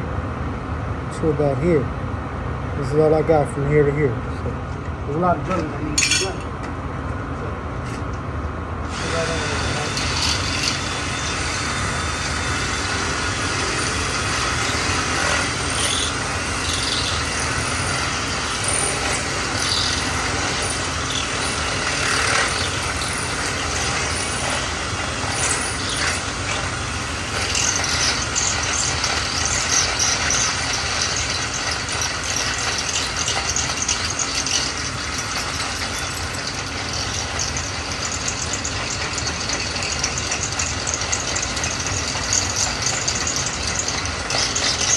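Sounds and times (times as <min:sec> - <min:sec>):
power drill boring into wood: 0:08.9 - 0:44.9.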